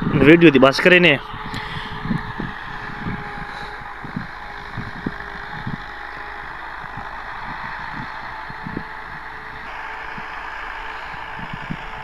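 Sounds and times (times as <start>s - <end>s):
distant tractor droning: 0.0s - 12.0s.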